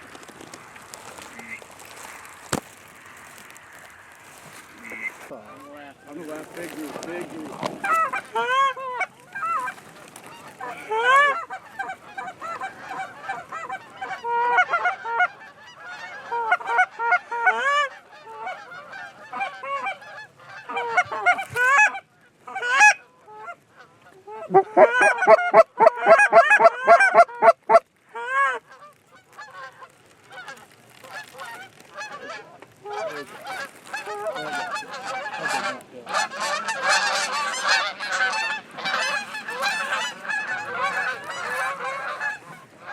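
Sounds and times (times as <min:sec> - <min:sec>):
geese honking and clucking: 0:00.0 - 0:42.9.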